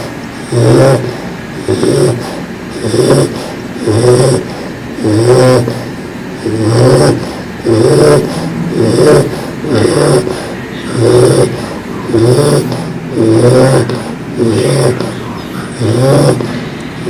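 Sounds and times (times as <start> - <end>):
dog snoring: 0.0 - 16.7.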